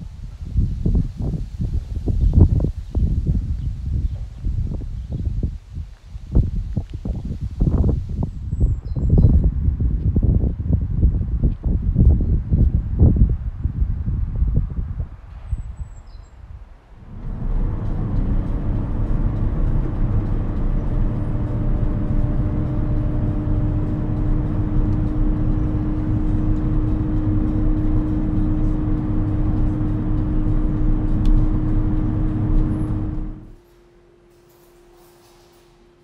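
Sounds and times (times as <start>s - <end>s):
vehicle rumble and hum: 0.0s - 33.8s.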